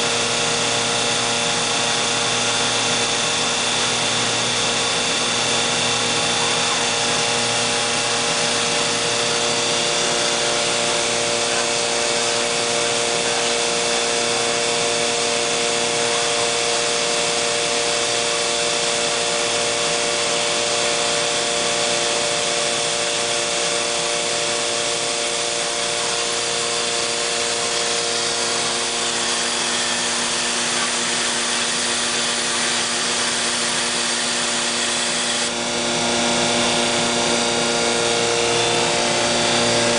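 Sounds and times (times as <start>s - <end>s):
cnc router whining: 0.0s - 39.9s.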